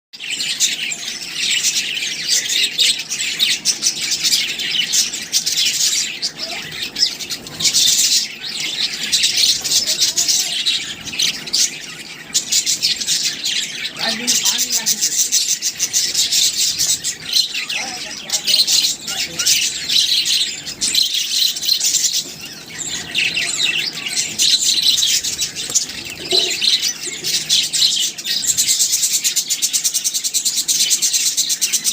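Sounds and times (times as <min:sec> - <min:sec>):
budgies chirping: 0:00.2 - 0:31.9.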